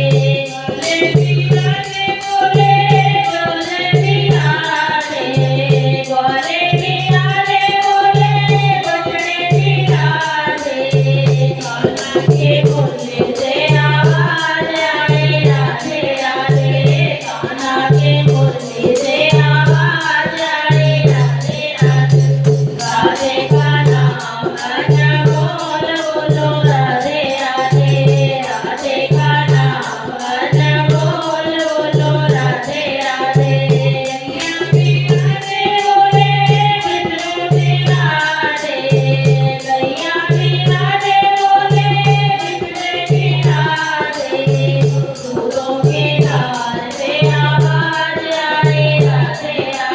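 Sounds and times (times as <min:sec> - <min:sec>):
voices singing devotional song: 0:00.0 - 0:49.9.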